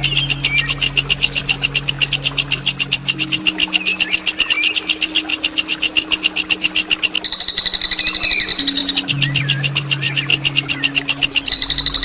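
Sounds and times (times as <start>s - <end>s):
songbird rolling trill: 0.0s - 12.0s.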